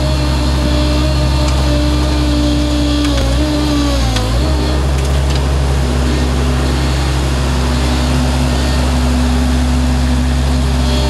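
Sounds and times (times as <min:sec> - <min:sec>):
loader bucket scooping soil: 0:00.0 - 0:11.0
loader engine running: 0:00.0 - 0:11.0.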